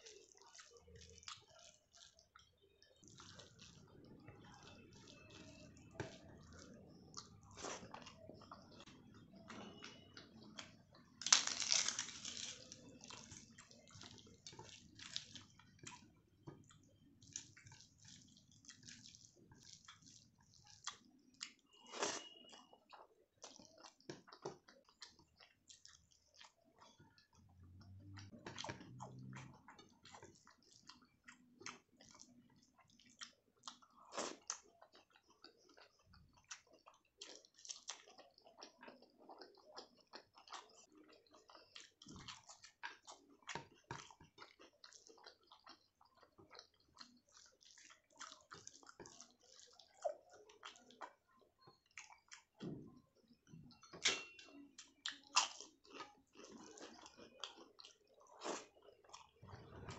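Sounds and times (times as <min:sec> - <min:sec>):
person chewing and biting food: 0:04.7 - 0:08.8, 0:09.4 - 0:27.3, 0:28.0 - 0:51.2, 0:54.8 - 0:59.9.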